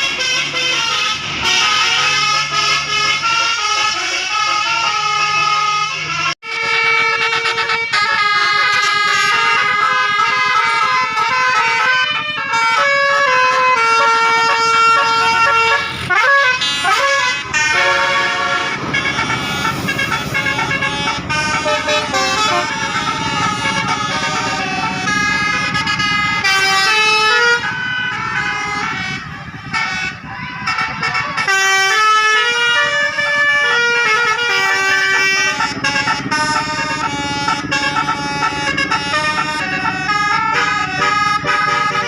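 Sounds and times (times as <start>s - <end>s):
bus air horn melody: 0.0s - 42.0s.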